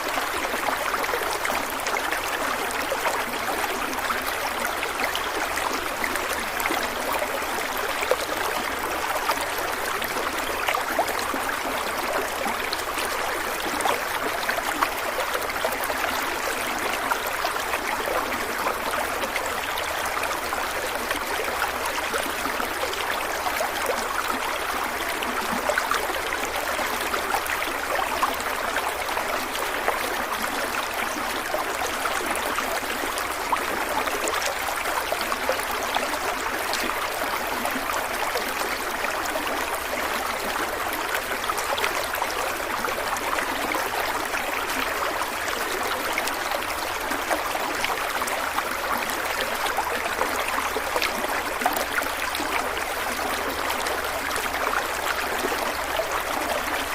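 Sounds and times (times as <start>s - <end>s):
stream water running over rocks: 0.0s - 56.9s.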